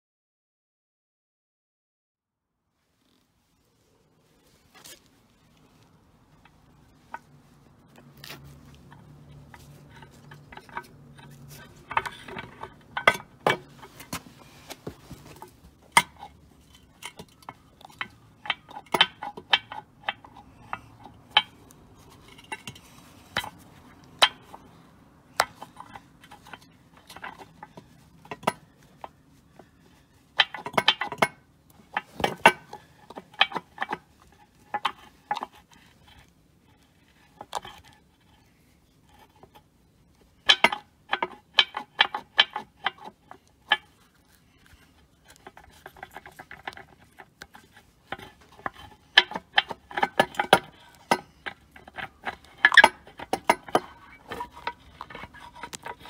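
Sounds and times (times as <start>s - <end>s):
ball joint clicking and clacking: 6.3s - 56.0s.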